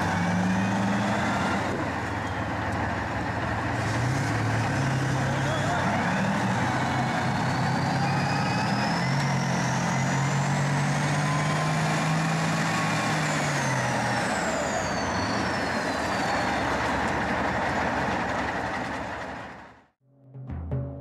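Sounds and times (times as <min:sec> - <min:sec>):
high engine whine: 0:00.0 - 0:19.9
tank engines running hard: 0:00.0 - 0:19.9.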